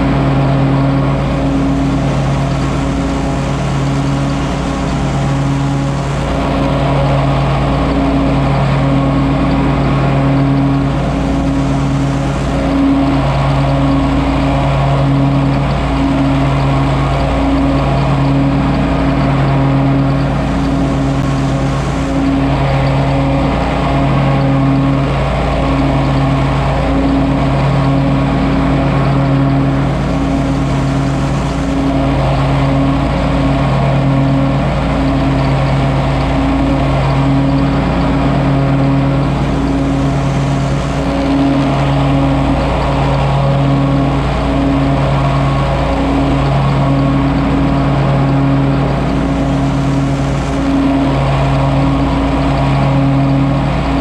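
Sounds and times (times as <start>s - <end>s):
mower engine drone: 0.0s - 54.0s.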